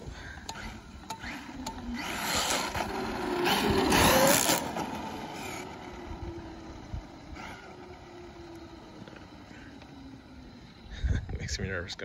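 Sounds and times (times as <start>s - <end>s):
rising electric motor whine: 0.0s - 11.1s.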